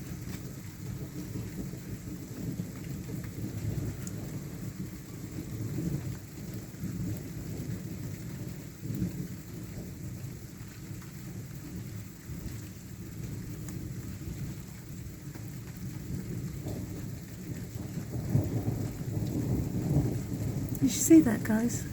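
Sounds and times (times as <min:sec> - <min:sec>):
low rumble of thunder: 0:00.0 - 0:21.9
rain falling: 0:00.0 - 0:21.9.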